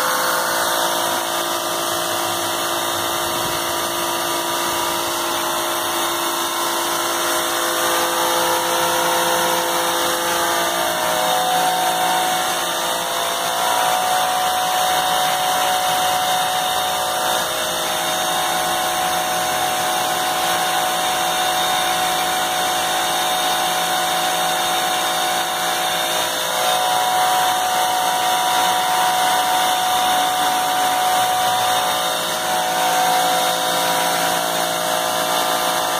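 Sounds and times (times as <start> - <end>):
pressure washer running: 0.0 - 35.9.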